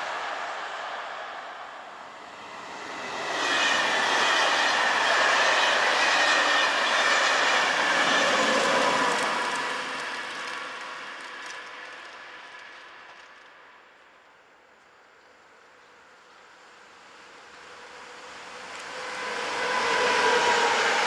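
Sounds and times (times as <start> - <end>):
train wheel-on-rail noise: 0.0 - 21.0.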